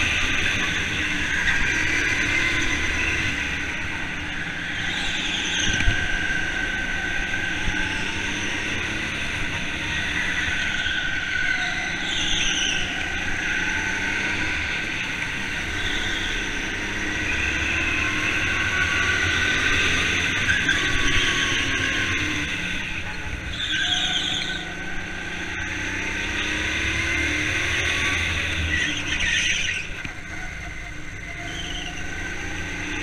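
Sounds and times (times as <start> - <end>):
go-karts whining: 0.0 - 33.0.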